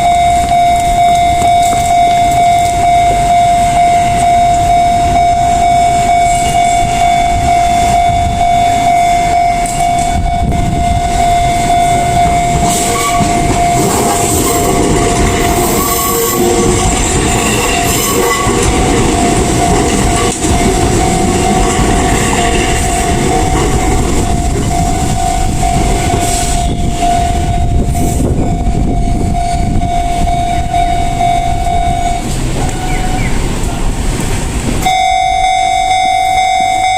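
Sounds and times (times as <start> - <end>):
level crossing warning bell: 0.0 - 33.4, 34.8 - 36.9
train wheels rumbling and squealing: 0.0 - 36.9.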